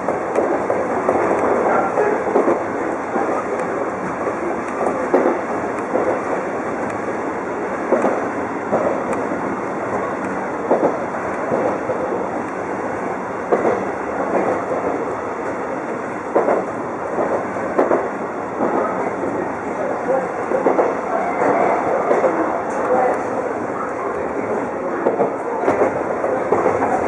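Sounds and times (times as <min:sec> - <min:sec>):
train running rumble: 0:00.0 - 0:27.0.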